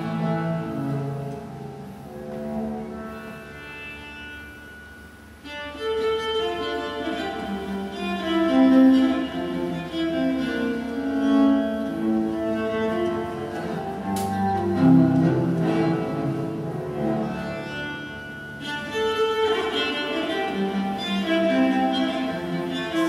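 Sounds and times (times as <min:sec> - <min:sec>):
bowed strings long held notes: 0:00.0 - 0:23.0.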